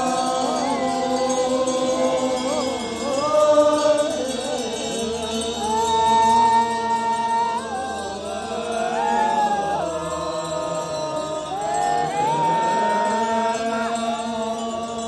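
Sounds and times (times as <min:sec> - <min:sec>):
slow melodic chant: 0:00.0 - 0:15.0.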